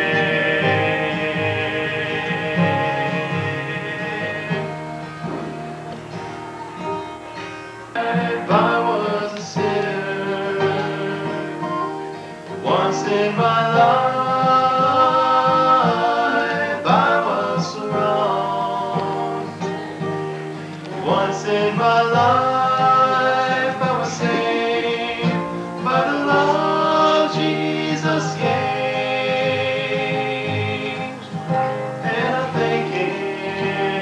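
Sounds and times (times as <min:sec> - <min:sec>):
acoustic guitar playing: 0:00.0 - 0:34.0
person singing long notes: 0:00.0 - 0:34.0.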